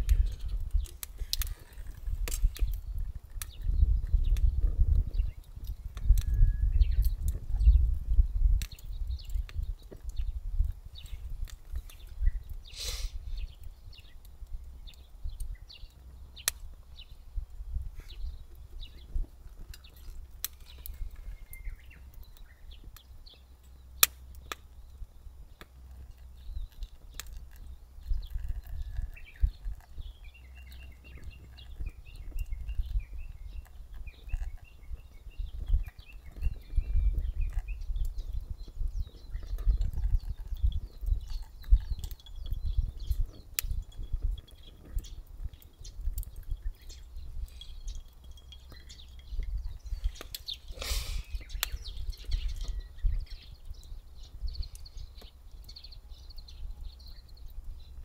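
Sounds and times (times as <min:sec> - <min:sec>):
birds chirping: 0:00.0 - 0:58.0
wood fire crackling: 0:00.0 - 0:58.0.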